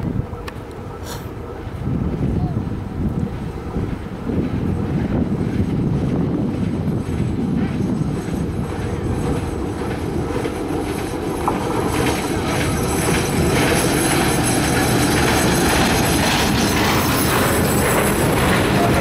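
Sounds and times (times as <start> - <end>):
diesel locomotive engine: 0.0 - 19.0
train wheels running over rails: 0.0 - 19.0.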